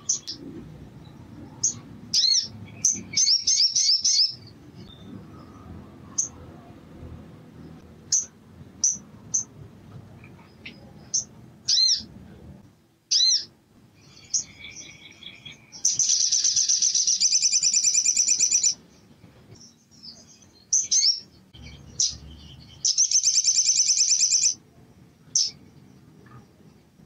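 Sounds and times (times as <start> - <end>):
sunbird chirps and trills: 0.0 - 6.5, 7.6 - 12.1, 13.1 - 27.0.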